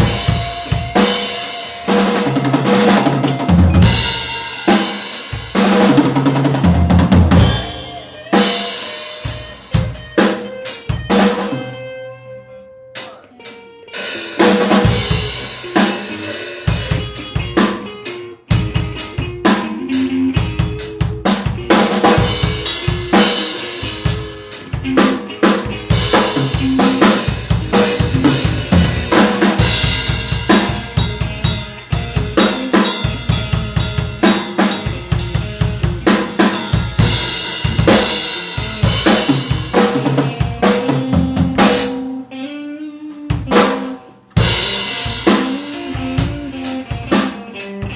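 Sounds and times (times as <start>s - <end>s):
drum kit playing rapid hits: 0.0s - 11.8s, 13.0s - 42.3s, 43.1s - 47.9s
guitar lines: 0.0s - 47.9s.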